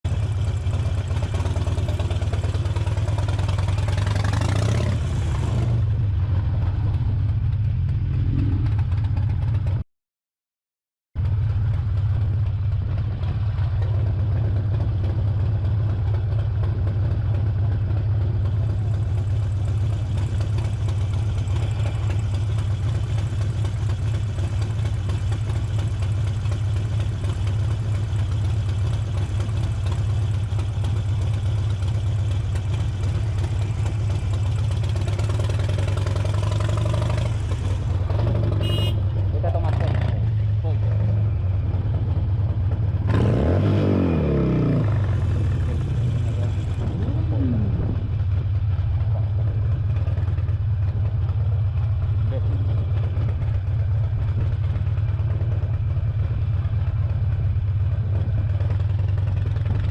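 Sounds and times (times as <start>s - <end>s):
motorcycle engine rumbling: 0.1s - 9.8s, 11.2s - 59.9s.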